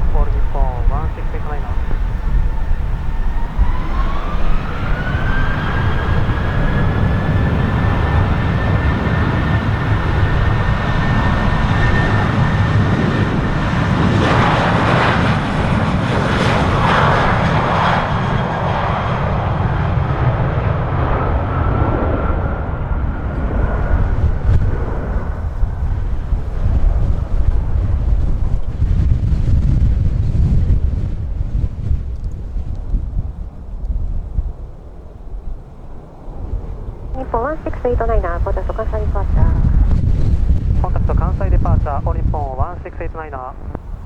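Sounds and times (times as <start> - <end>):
jet engine roar: 0.0 - 44.0
jet engine whine: 0.0 - 44.0.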